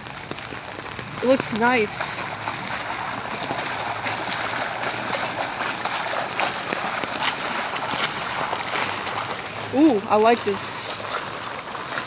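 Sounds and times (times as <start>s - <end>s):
drips and splashes: 0.0s - 12.0s
heavy rain pouring: 0.0s - 12.0s.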